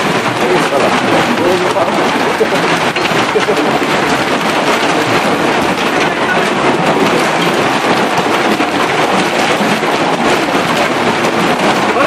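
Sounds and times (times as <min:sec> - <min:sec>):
hailstones falling hard: 0:00.0 - 0:12.0.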